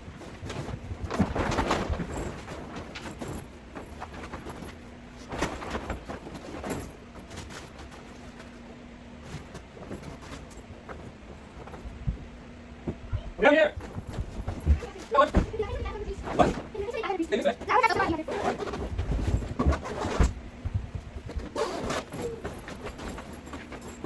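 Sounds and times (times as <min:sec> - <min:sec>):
tent fabric rustling: 0:00.0 - 0:12.0, 0:13.6 - 0:24.0.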